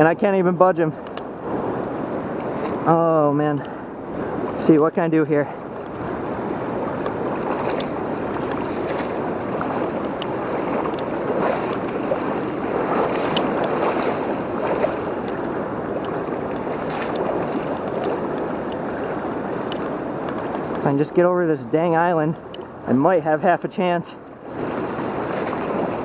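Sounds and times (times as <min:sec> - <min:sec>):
paddle dipping in water: 0:00.0 - 0:23.2, 0:24.2 - 0:26.0
river water rushing and splashing: 0:00.0 - 0:26.0.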